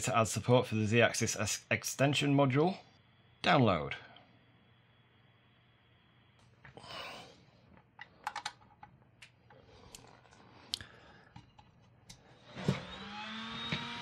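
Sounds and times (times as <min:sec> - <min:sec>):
machine hum and whine: 0:00.0 - 0:14.0.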